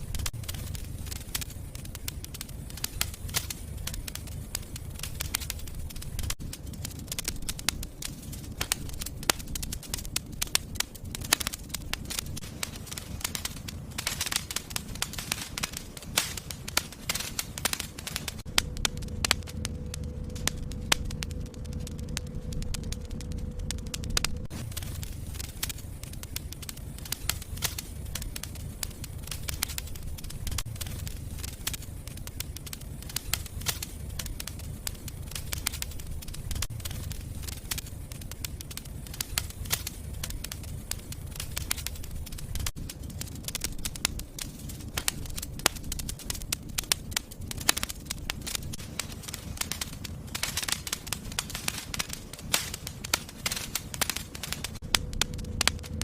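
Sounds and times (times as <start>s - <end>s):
fire crackling and popping: 0.0s - 56.0s
low steady rumble: 0.0s - 56.0s.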